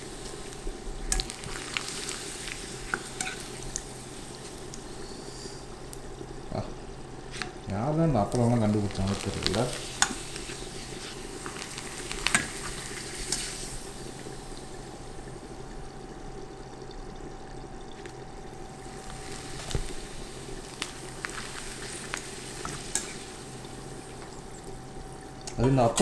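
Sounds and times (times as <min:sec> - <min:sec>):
deep-frying sizzle: 0:00.0 - 0:26.0.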